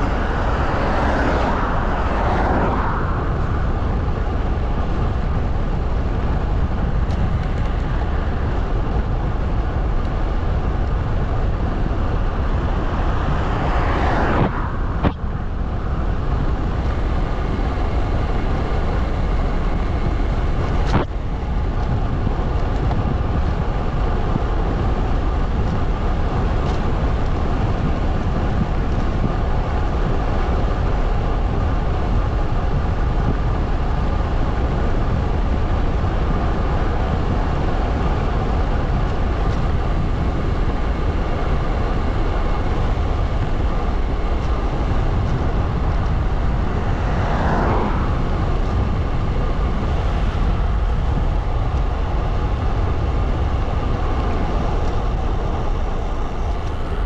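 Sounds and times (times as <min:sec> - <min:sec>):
bicycle tyre and road noise: 0:00.0 - 0:57.0
wind buffeting microphone: 0:00.0 - 0:57.0.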